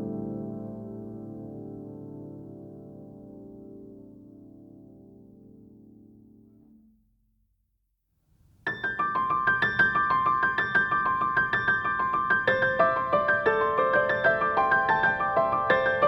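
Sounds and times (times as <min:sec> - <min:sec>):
light piano tune: 0:00.0 - 0:06.8, 0:08.6 - 0:16.0.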